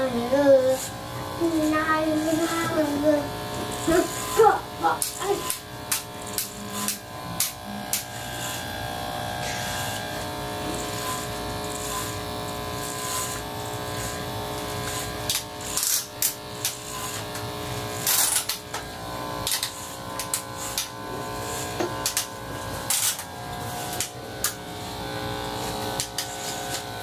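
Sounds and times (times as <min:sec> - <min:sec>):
electric hair clippers buzzing: 0:00.0 - 0:27.0.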